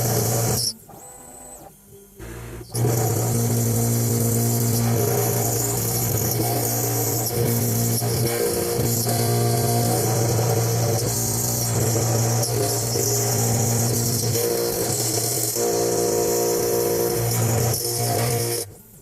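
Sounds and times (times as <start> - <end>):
cnc machine humming and hissing: 0.0 - 19.0.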